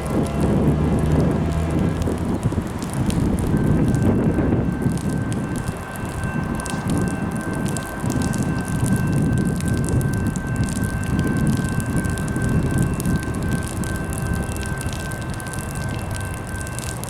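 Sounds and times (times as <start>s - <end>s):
freight train rumbling past: 0.0s - 15.6s
crackle: 0.0s - 17.0s.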